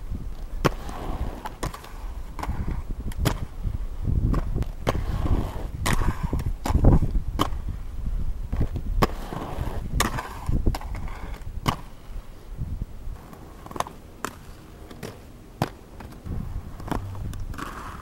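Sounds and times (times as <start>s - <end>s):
skate wheels rolling on concrete: 0.0s - 18.0s
skates clacking on ground: 0.3s - 3.6s, 4.3s - 7.7s, 8.5s - 12.0s, 13.2s - 18.0s.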